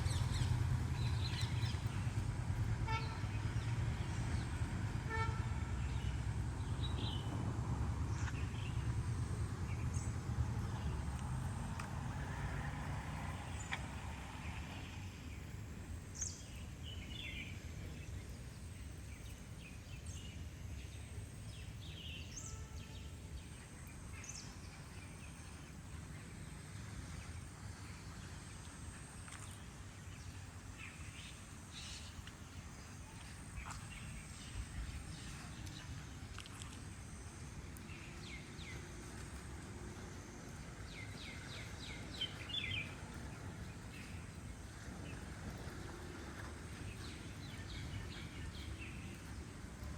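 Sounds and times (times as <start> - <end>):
low rumbling background noise: 0.0 - 49.9.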